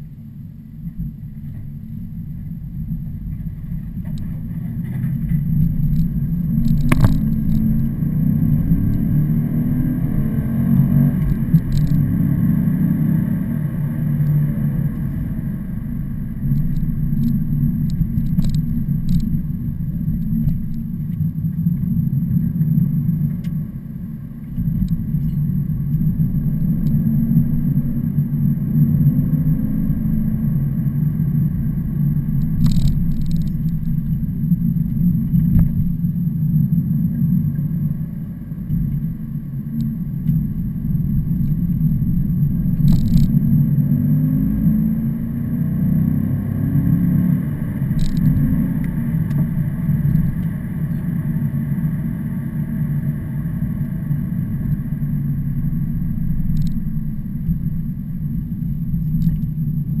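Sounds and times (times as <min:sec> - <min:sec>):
heavy truck traffic rumble: 0:00.0 - 1:00.0.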